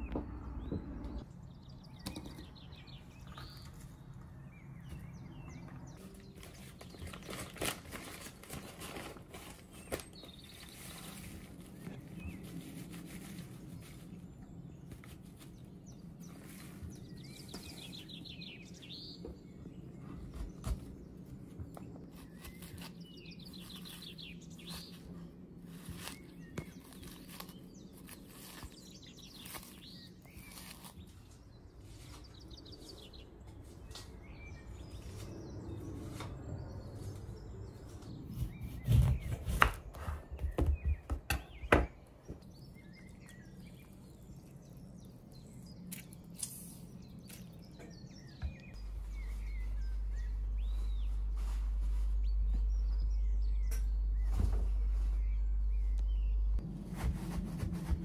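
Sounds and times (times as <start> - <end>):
songbird chirping: 0.0 - 56.7.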